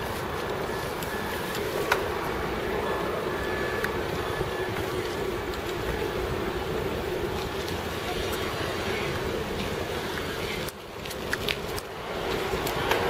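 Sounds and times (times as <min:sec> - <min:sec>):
bicycle rolling over paving: 0:00.0 - 0:13.0.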